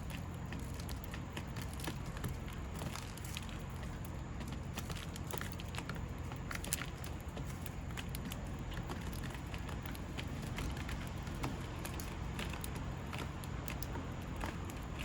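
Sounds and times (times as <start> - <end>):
sparrows pecking and tapping: 0.0 - 15.0.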